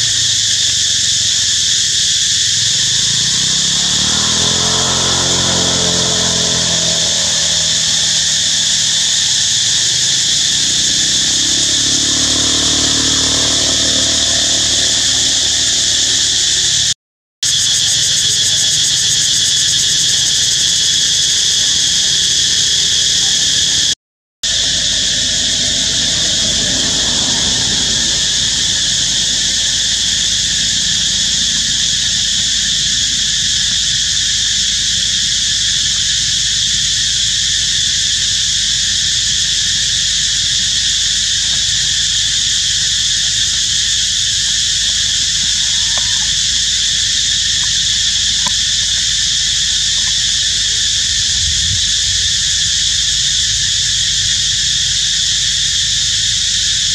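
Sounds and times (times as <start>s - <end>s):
insect chorus: 0.0s - 56.9s.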